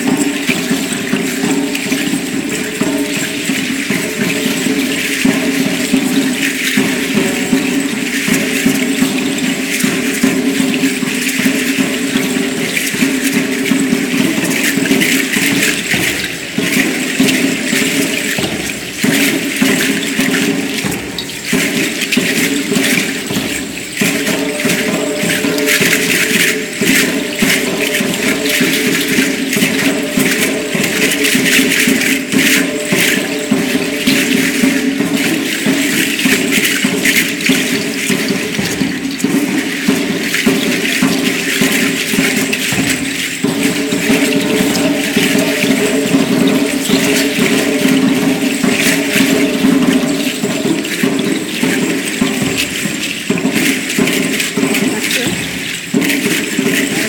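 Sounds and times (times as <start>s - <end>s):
accompanying music: 0.0s - 57.0s
ankle rattles shaking: 0.0s - 57.0s.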